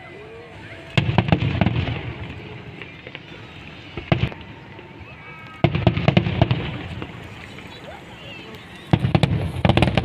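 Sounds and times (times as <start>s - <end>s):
crowd hubbub: 0.0s - 10.0s
fireworks bangs and crackles: 0.7s - 10.0s.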